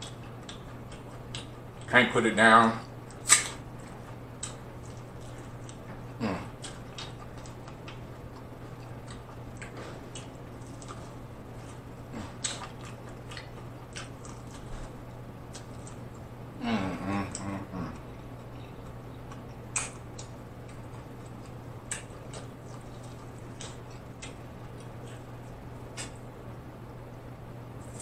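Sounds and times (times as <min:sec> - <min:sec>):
chewing corn on the cob: 0:00.0 - 0:01.9, 0:03.0 - 0:16.3, 0:17.0 - 0:26.3
faint low hum: 0:00.0 - 0:28.0.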